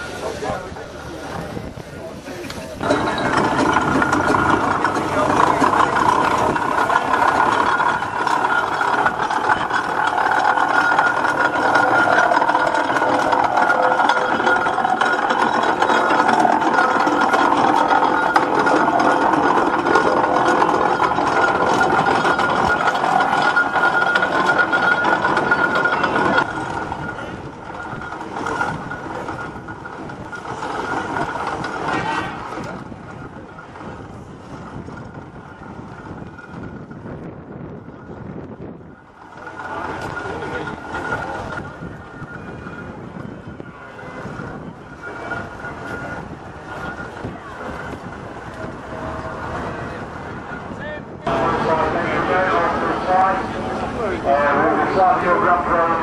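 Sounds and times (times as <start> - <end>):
people's voices: 0.0 - 34.6, 39.0 - 56.0
steam traction engine running: 0.0 - 56.0.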